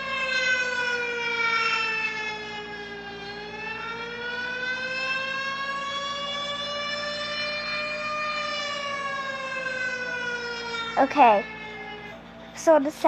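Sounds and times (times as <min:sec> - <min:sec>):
warning siren wailing: 0:00.0 - 0:12.6.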